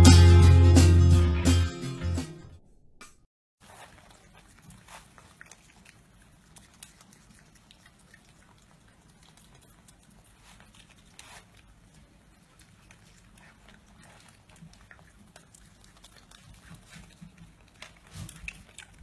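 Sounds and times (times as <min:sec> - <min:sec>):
raccoon chewing food: 0:03.6 - 0:19.0.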